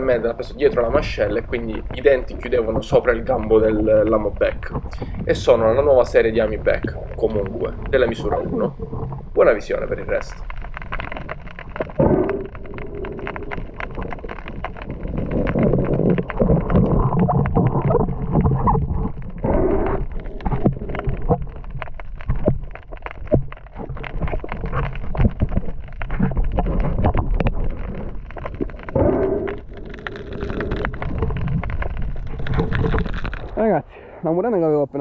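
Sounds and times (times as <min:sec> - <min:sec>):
sharp clicks and crackles: 0:00.0 - 0:34.2
muffled underwater water rumble: 0:00.0 - 0:35.0.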